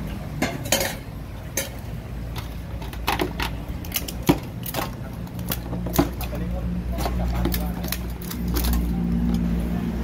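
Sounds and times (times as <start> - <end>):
utensils and dishes clinking: 0.2 - 9.5.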